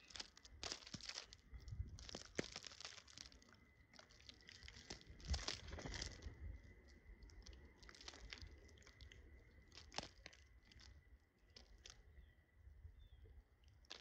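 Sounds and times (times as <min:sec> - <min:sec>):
birds pecking at food: 0:00.0 - 0:12.4, 0:13.6 - 0:14.0.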